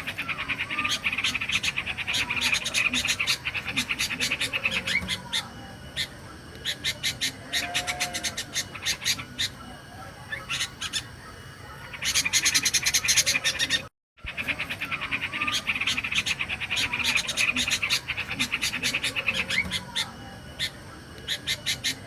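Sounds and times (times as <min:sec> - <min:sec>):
bird chattering: 0:00.0 - 0:22.0.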